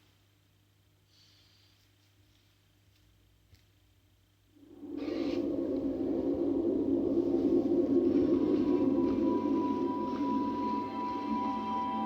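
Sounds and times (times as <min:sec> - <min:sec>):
faint low hum: 0:00.0 - 0:12.0
faint hiss: 0:00.9 - 0:03.1, 0:04.5 - 0:12.0.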